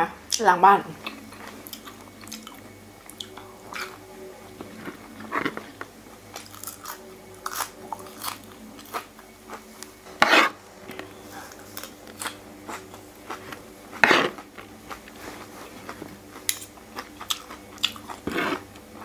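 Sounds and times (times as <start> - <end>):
person chewing and crunching food: 1.0 - 19.0.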